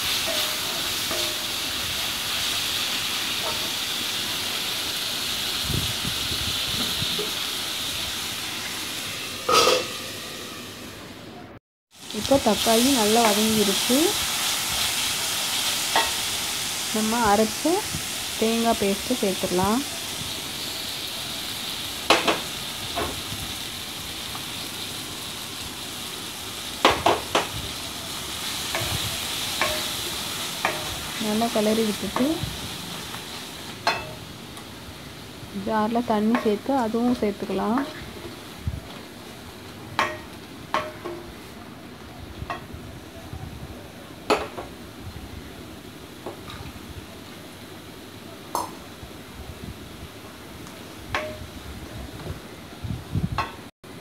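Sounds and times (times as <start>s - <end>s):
food sizzling in a pan: 0.0s - 11.0s, 11.9s - 54.0s.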